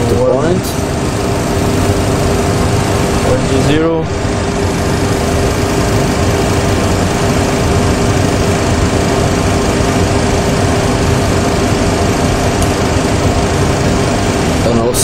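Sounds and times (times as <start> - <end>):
constant hum: 0.0 - 15.0
jet engine and airflow noise: 0.0 - 15.0.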